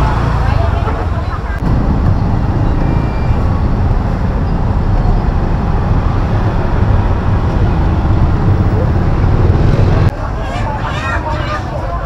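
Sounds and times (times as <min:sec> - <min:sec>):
busy street market rumble: 0:00.0 - 0:12.0.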